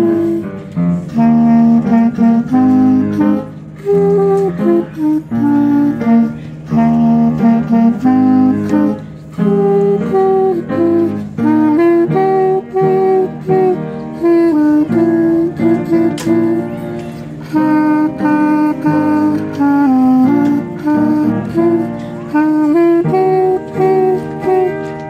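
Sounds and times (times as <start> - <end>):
clarinet melody: 0.0 - 25.0.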